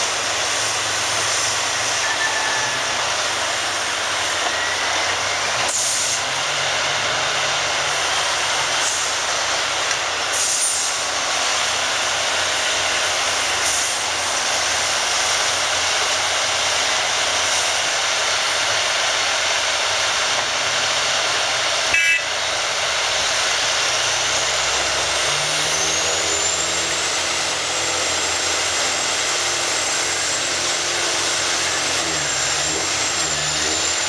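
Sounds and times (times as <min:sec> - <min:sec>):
heavy diesel engines working: 0:00.0 - 0:34.0.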